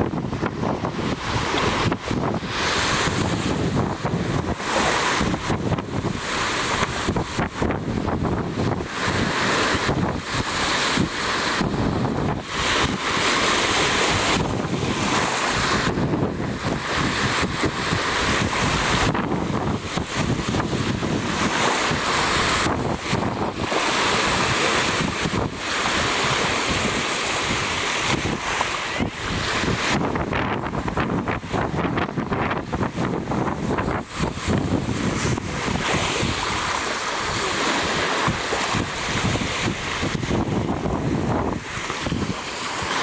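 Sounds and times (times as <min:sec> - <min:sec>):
surf washing onto beach: 0:00.0 - 0:43.0
wind buffeting microphone: 0:00.0 - 0:43.0.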